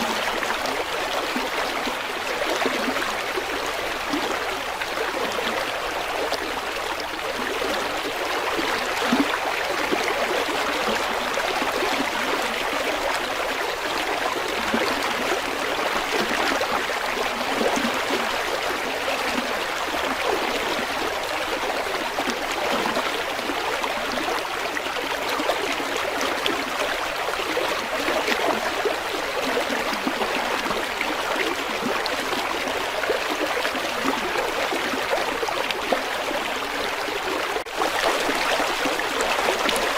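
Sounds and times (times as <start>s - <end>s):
river water babbling over rocks: 0.0s - 39.9s.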